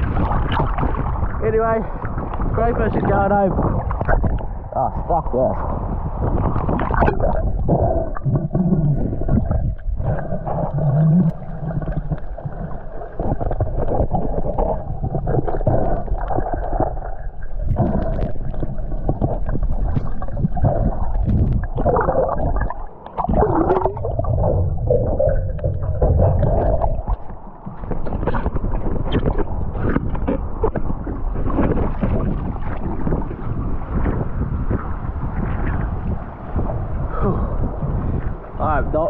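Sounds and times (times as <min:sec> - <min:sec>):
underwater water rushing and gurgling: 0:00.0 - 0:39.0.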